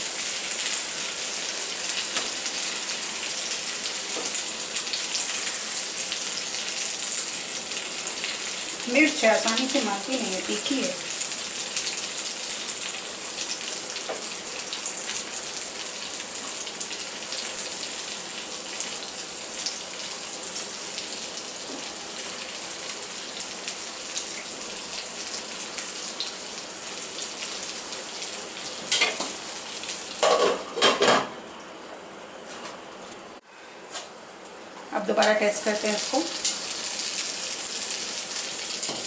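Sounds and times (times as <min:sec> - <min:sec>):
chillies sizzling in oil: 0:00.0 - 0:31.1, 0:34.9 - 0:39.0.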